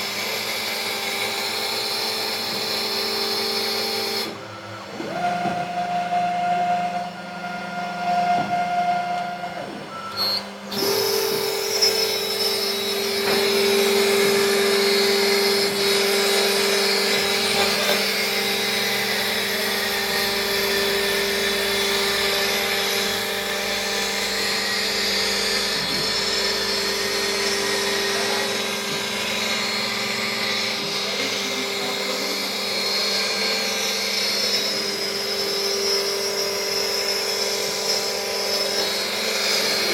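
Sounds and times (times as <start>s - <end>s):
cnc router spindle whine: 0.0s - 39.9s.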